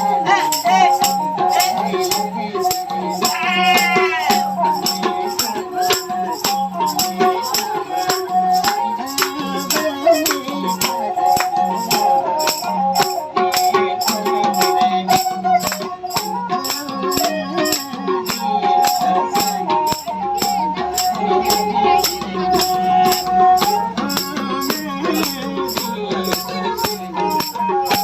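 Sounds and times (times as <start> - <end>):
rattling jingling percussion: 0.0 - 28.0
sarangi melody: 0.0 - 28.0.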